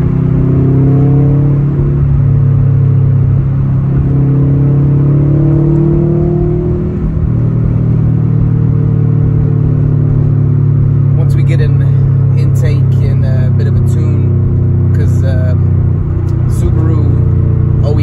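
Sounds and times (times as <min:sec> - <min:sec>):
car engine drone inside cabin: 0:00.0 - 0:18.0.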